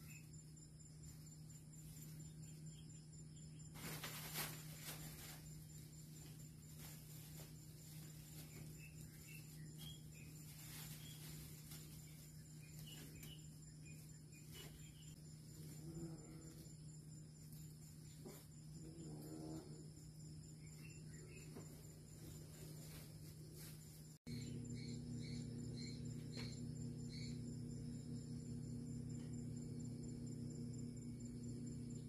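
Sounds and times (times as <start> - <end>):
insects trilling: 0.0 - 32.0
low steady hum: 0.0 - 32.0.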